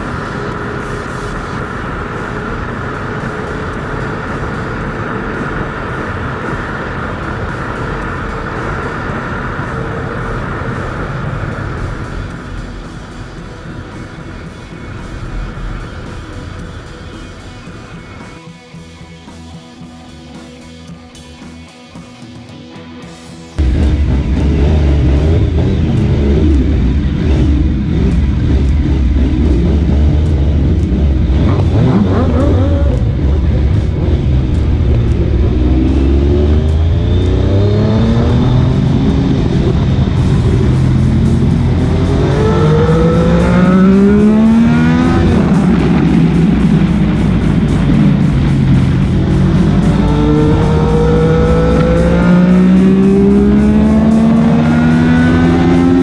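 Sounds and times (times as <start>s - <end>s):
motorcycle engine accelerating: 0.0s - 18.6s, 22.0s - 56.0s
music playing: 0.0s - 56.0s.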